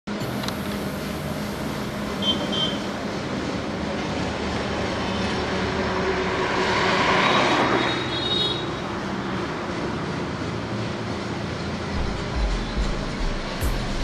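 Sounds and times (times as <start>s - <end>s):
road traffic rushing past: 0.1s - 14.0s.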